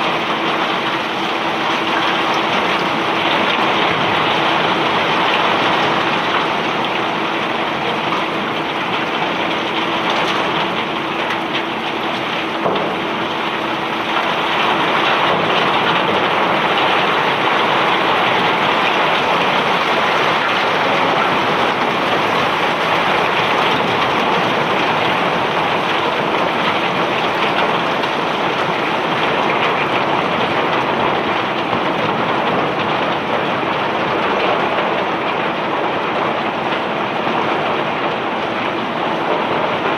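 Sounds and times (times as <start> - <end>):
faint machine hum: 0.0 - 39.9.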